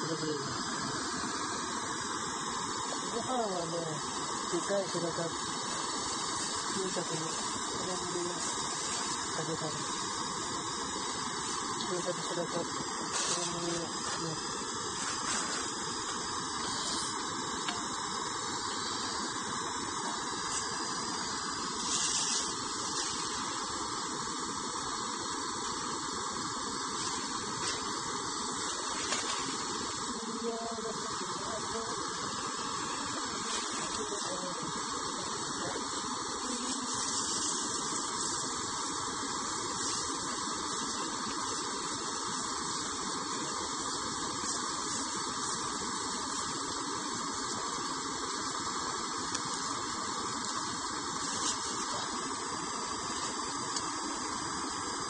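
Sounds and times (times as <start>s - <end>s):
gas stove burner hissing: 0.0s - 55.0s.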